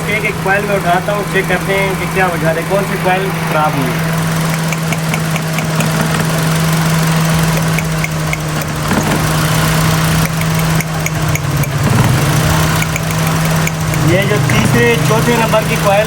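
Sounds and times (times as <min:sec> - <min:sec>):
car engine idling with misfire: 0:00.0 - 0:16.0.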